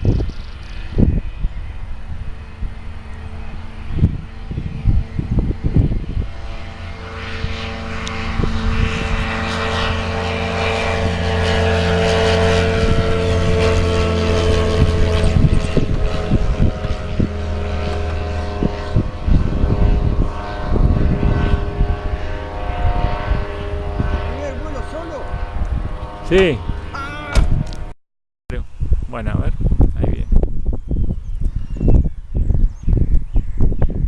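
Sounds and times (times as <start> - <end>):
model airplane engine and propeller: 0.0 - 27.9, 28.5 - 34.0
wind buffeting microphone: 0.0 - 27.9, 28.5 - 34.0.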